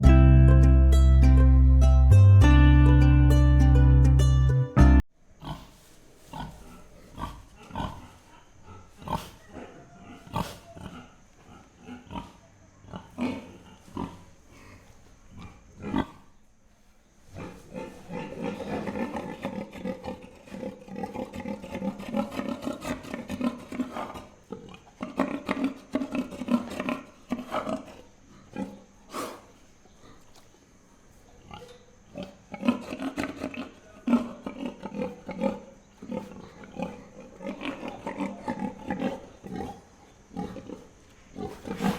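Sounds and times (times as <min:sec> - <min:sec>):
pigs grunting: 0:05.4 - 0:16.3, 0:17.3 - 0:30.4, 0:31.4 - 0:41.9.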